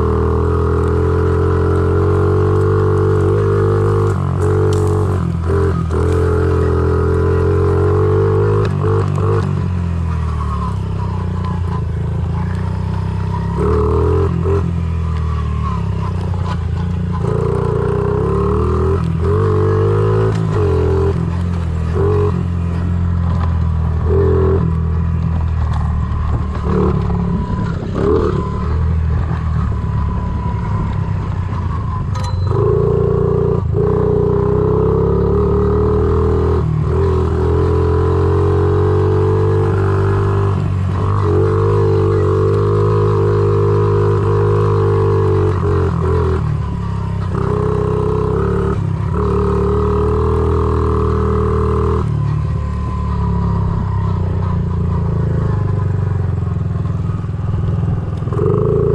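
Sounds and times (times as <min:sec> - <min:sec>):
small motorcycle engine revving: 0:00.0 - 0:58.9.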